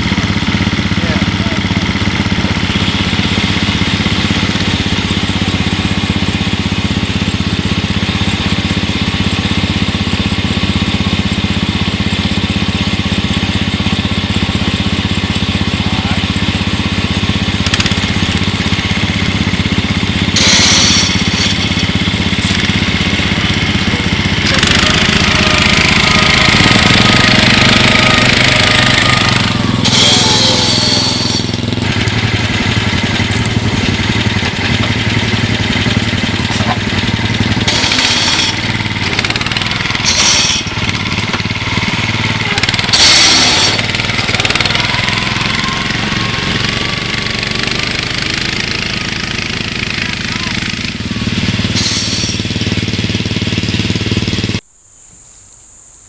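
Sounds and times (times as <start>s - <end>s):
riding mower engine running: 0.0s - 54.7s.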